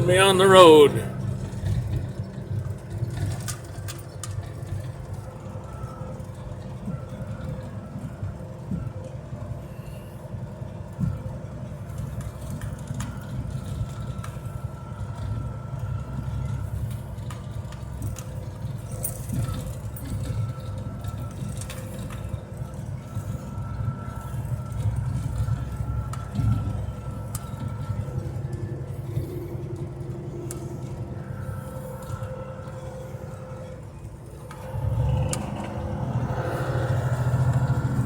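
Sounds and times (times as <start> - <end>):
combine harvester running: 0.0 - 38.0.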